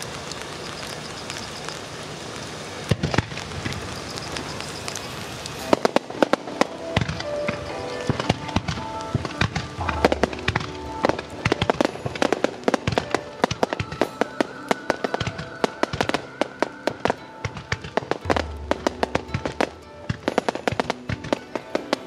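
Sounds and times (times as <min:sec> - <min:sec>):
firework bangs and crackles: 0:00.0 - 0:22.0
music with sustained notes: 0:03.0 - 0:22.0.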